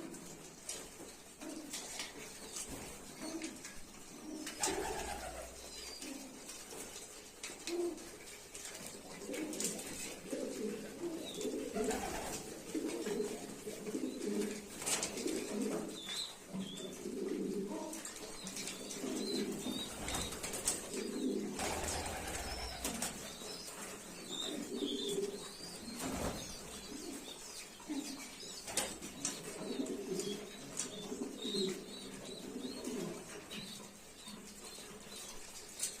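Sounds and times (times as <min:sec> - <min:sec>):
pigeons cooing: 0:01.4 - 0:06.8, 0:07.5 - 0:36.0.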